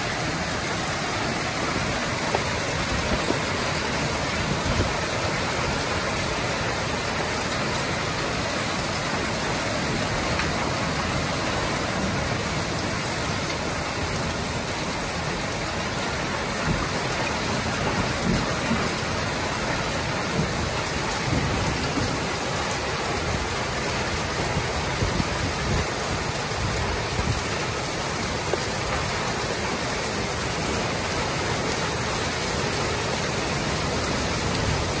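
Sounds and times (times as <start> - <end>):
heavy rain pouring on pavement: 0.0 - 35.0.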